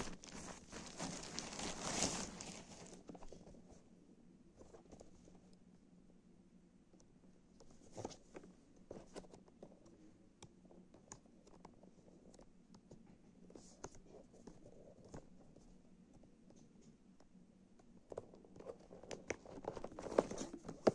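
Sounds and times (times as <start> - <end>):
faint low hum: 0.0 - 20.9.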